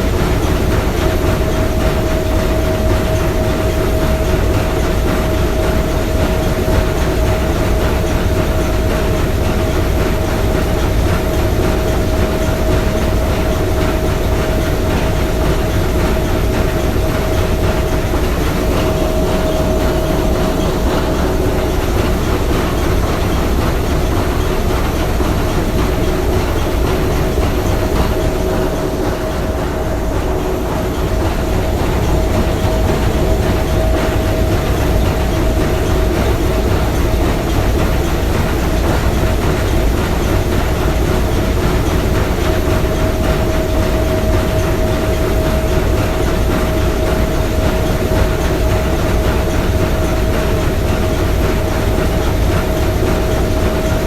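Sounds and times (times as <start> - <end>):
steam engine running: 0.0 - 54.0.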